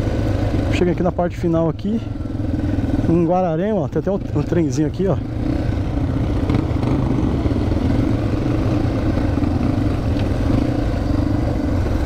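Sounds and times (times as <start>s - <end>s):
dirt bike engine running: 0.0s - 12.0s
other dirt bike engines: 0.0s - 12.0s.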